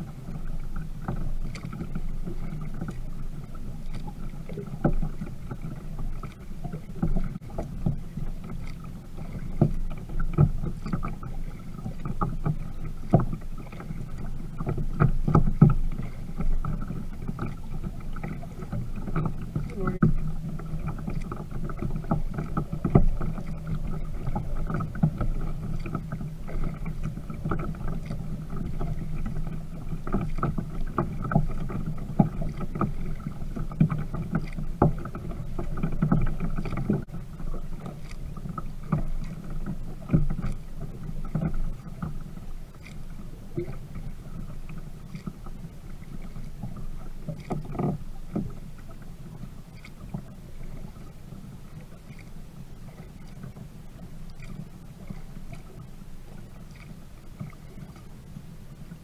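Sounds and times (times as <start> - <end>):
paddle splashes: 0.0 - 59.0
water washing along plastic hull: 0.0 - 59.0.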